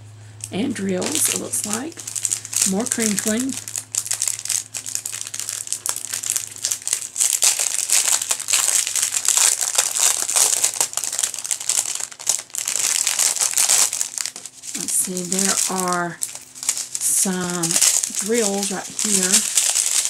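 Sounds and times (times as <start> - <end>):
plastic bags crinkling: 0.8 - 20.0.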